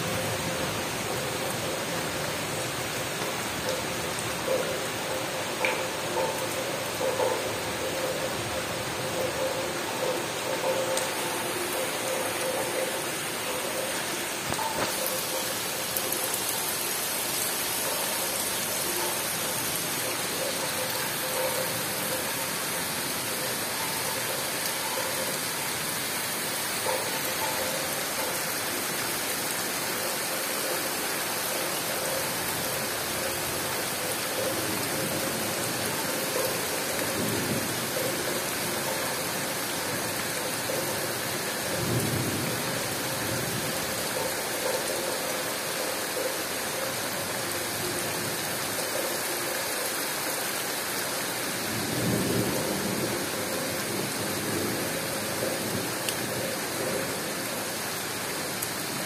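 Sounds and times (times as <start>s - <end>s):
heavy rain on foliage: 0.0s - 59.0s.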